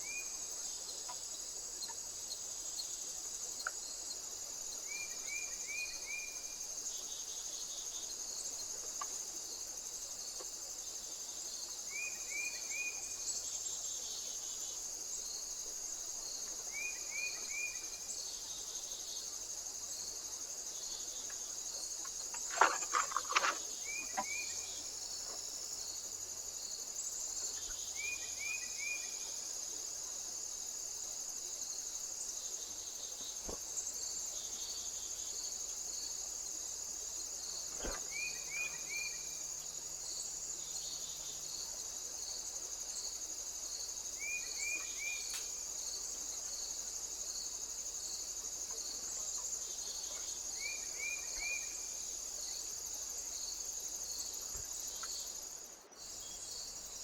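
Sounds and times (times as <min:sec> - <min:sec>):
insects singing: 0:00.0 - 0:57.0.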